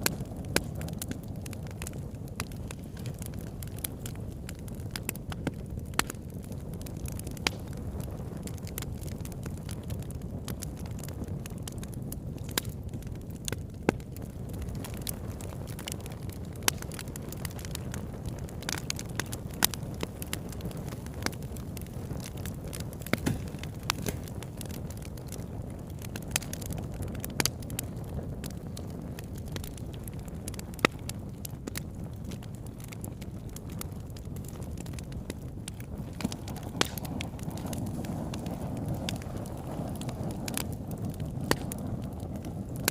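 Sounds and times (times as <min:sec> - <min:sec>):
bonfire flames rumbling: 0:00.0 - 0:42.9
fire pops and crackles: 0:00.0 - 0:42.9.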